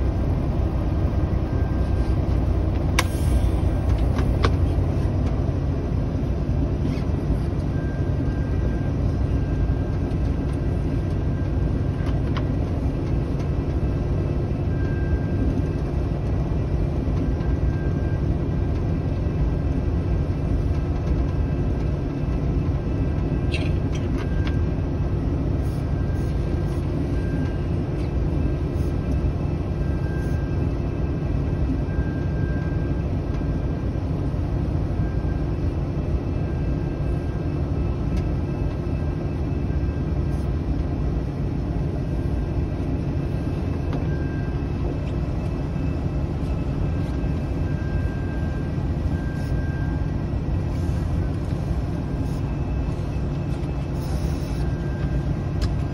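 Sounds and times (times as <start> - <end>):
diesel engine rumble: 0.0 - 55.9.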